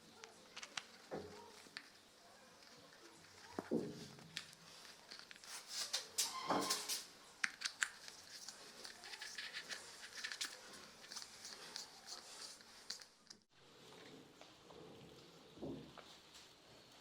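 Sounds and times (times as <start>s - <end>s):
rustling and scraping: 0.2s - 17.0s.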